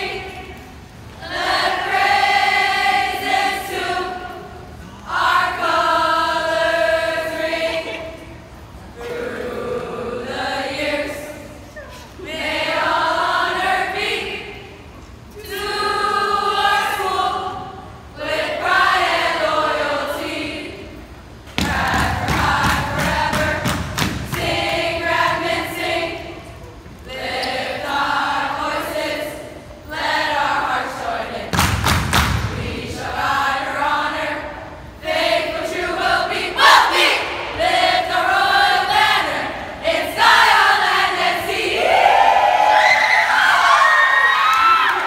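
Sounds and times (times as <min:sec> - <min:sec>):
young voices singing in unison: 0:00.0 - 0:45.0.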